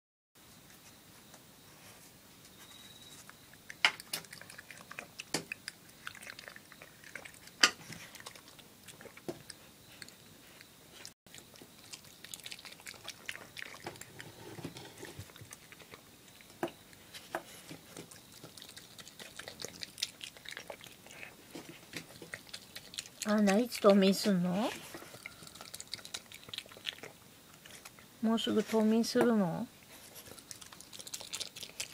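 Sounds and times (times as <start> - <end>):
animal chewing with mouth clicks: 2.6 - 28.1, 29.8 - 31.9.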